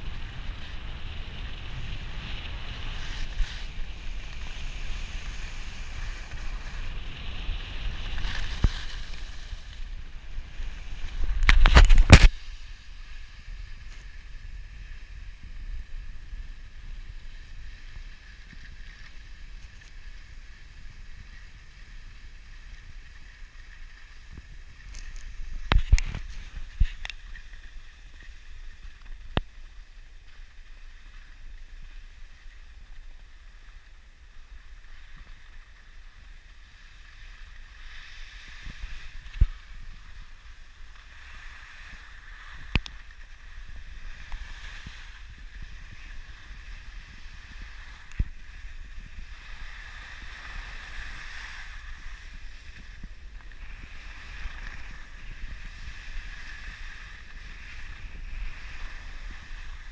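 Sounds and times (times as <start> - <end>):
skis hissing on snow: 0.0 - 59.9
wind rumble on microphone: 0.0 - 59.9.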